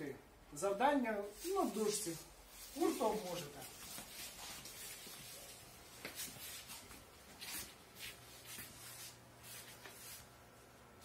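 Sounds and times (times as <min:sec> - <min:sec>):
low steady hum: 0:00.0 - 0:11.0
soft hissy noises: 0:00.0 - 0:11.0
people rustling and shuffling: 0:01.2 - 0:10.4.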